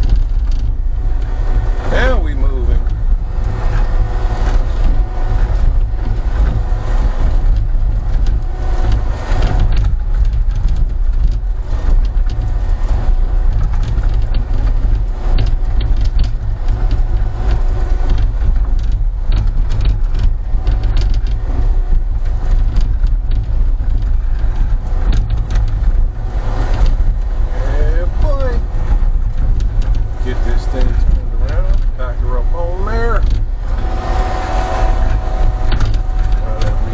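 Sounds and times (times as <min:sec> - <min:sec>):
diesel engine rumbling: 0:00.0 - 0:36.9
short clanks and rattles: 0:00.0 - 0:36.9.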